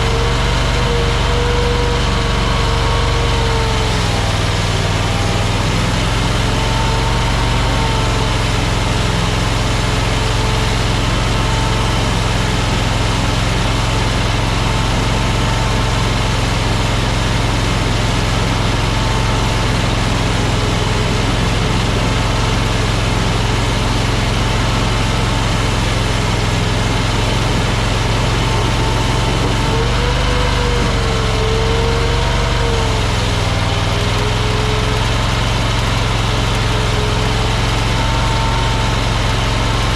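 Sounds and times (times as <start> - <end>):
track loader engine running: 0.0 - 39.9.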